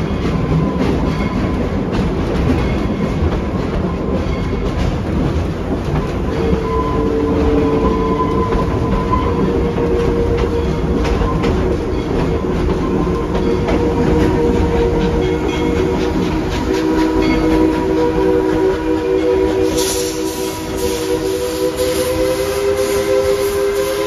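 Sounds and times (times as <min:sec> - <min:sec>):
wheels clicking on rail joints: 0:00.0 - 0:22.2
train rolling along track: 0:00.0 - 0:24.0.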